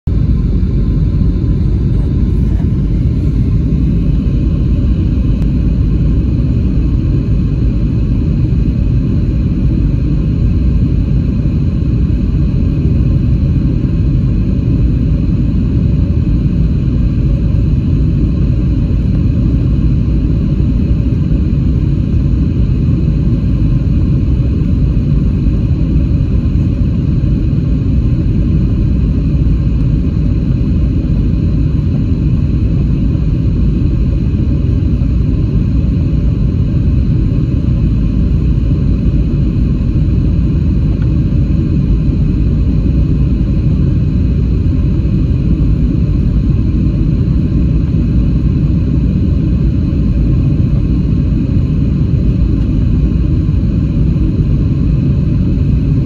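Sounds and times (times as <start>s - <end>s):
jet engine rumble and airflow: 0.0s - 56.0s
faint high whine: 0.1s - 56.0s.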